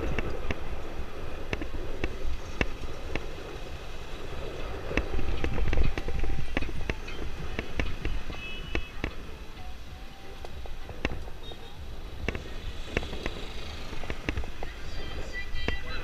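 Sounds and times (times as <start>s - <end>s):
bike clicks and rattles: 0.0s - 15.9s
wind rumbling on microphone: 0.0s - 16.0s.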